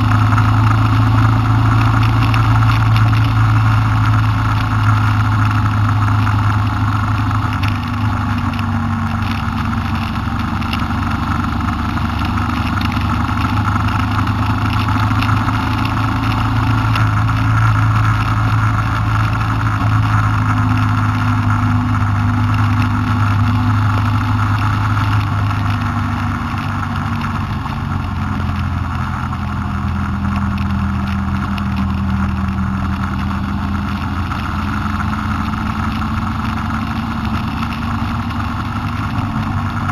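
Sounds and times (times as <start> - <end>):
motorcycle engine cruising: 0.0 - 39.9
road noise: 0.0 - 39.9.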